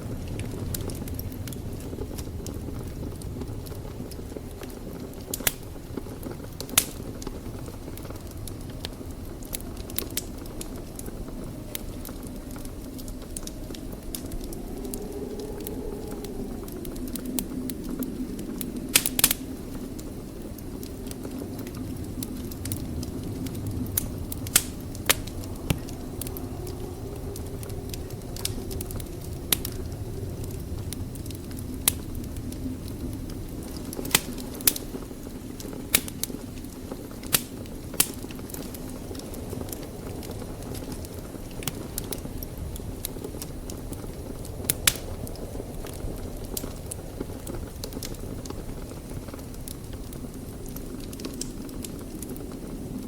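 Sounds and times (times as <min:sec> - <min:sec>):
fire crackling pops: 0:00.0 - 0:53.0
fire rumbling and hissing: 0:00.0 - 0:53.0.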